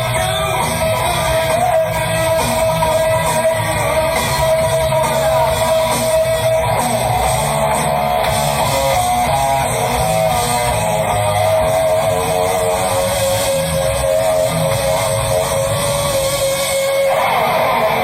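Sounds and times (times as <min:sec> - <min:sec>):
bass guitar: 0:00.0 - 0:18.0
drums: 0:00.0 - 0:18.0
electric guitar lead: 0:00.0 - 0:18.0.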